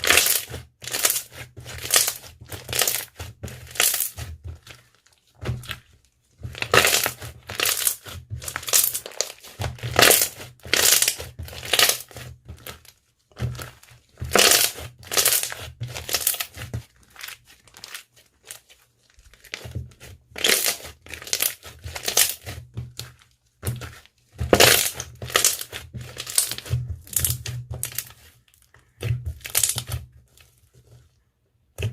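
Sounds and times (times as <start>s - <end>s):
slime squished by hand: 0.0s - 30.7s.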